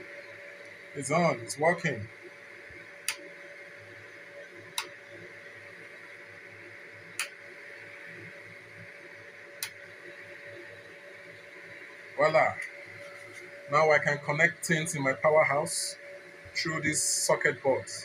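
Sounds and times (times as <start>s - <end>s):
high-pitched electrical hum: 0.0s - 18.0s.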